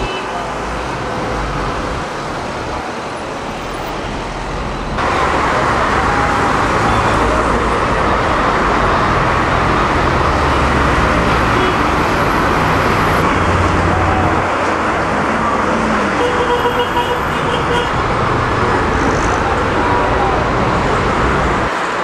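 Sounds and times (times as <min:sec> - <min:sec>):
busy street traffic: 0:00.0 - 0:22.0.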